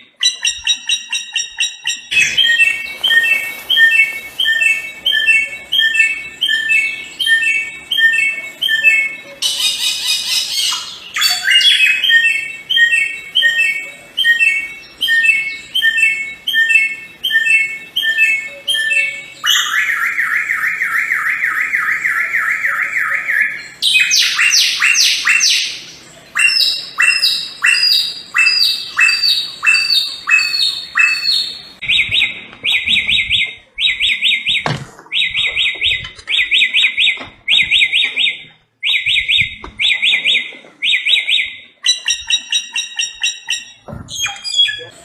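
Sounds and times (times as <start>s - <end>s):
bird singing trills and whistles: 0.2s - 45.0s.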